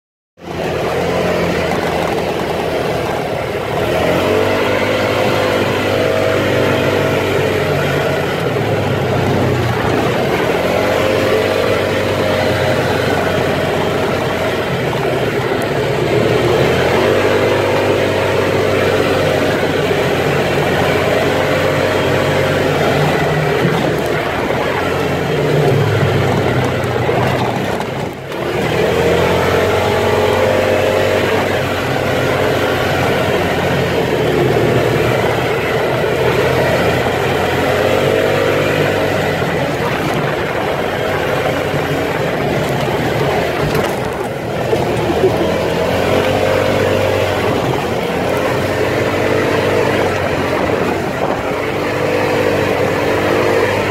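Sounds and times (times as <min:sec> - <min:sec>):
off-road vehicle engine revving: 0:00.4 - 0:53.9.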